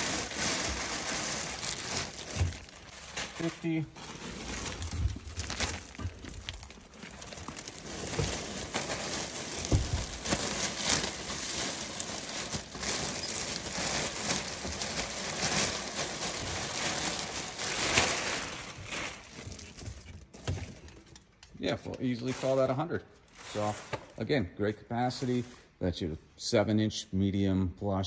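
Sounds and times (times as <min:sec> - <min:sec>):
plastic bags rustling and crinkling: 0:00.0 - 0:24.2.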